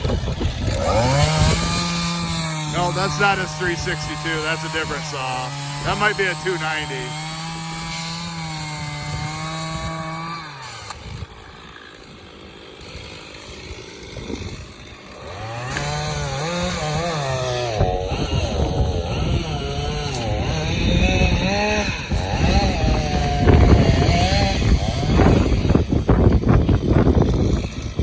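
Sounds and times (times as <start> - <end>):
chainsaw engine revving: 0.0 - 28.0.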